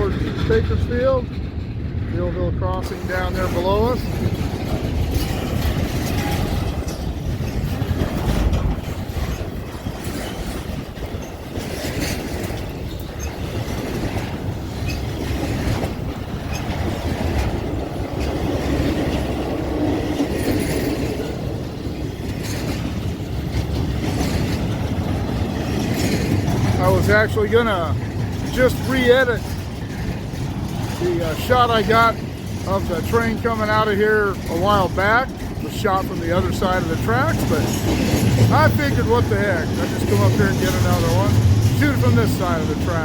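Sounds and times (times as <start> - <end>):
freight train wheels rumbling on rail: 0.0 - 43.0
train cars clacking and knocking: 0.0 - 43.0.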